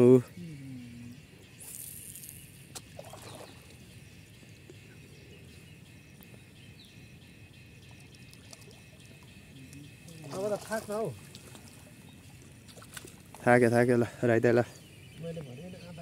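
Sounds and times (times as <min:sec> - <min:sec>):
gentle water sounds: 0:00.0 - 0:15.4
faint high hum: 0:00.0 - 0:16.0.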